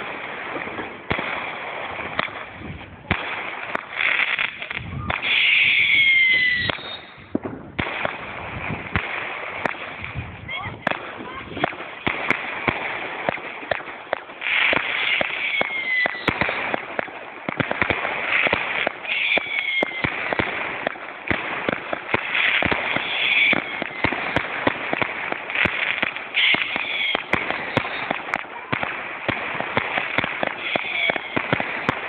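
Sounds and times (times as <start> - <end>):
fireworks cracks and bangs: 0.0 - 32.0
fireworks hissing bursts: 0.0 - 32.0.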